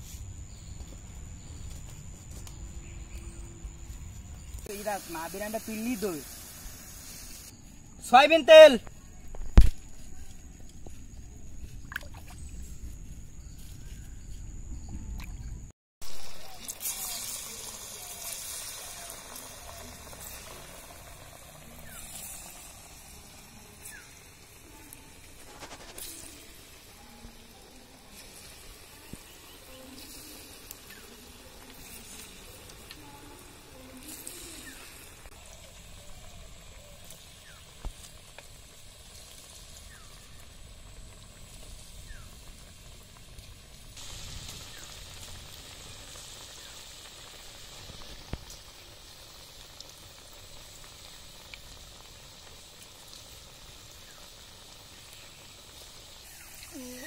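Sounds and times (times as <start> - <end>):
batter sizzling in hot oil: 2.8 - 8.8, 16.0 - 57.0.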